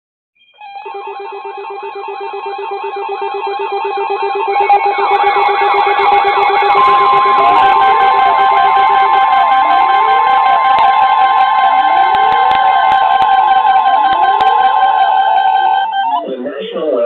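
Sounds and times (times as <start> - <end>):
fast pulsing electronic beep: 0.4 - 16.3
steady alarm tone: 0.6 - 16.3
steady high beeps: 0.6 - 16.3
warbling electronic sweep: 0.7 - 16.4.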